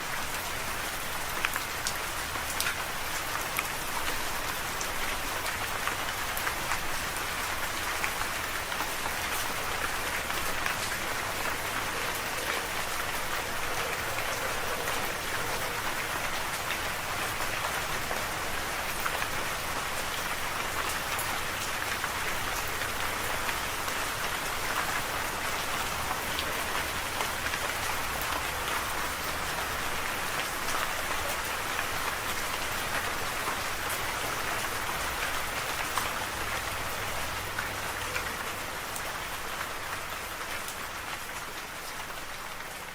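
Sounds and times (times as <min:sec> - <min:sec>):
rain pattering: 0:00.0 - 0:42.9.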